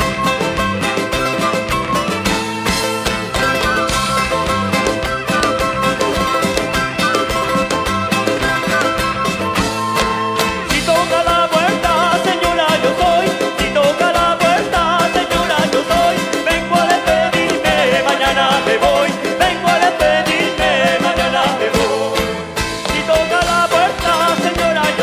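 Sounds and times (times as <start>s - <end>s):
live band playing latin dance music: 0.0s - 25.0s.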